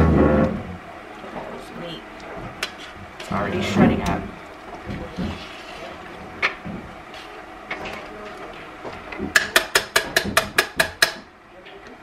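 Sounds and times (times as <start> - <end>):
stirring and handling noise: 0.0 - 12.0.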